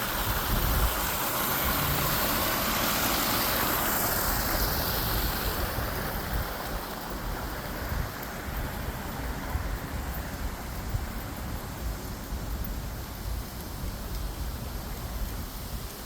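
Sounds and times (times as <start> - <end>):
steady rushing noise: 0.0 - 16.0
wind rumbling on microphone: 0.0 - 16.0.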